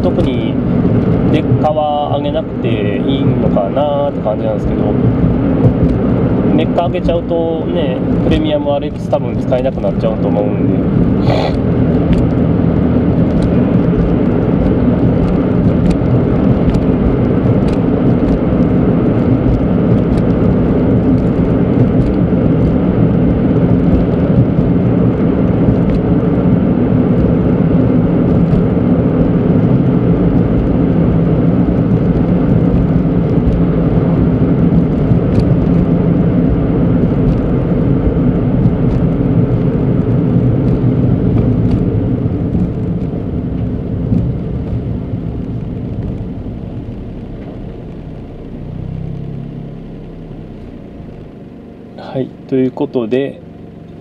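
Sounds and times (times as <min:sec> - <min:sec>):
in-cabin engine and road noise: 0:00.0 - 0:54.0.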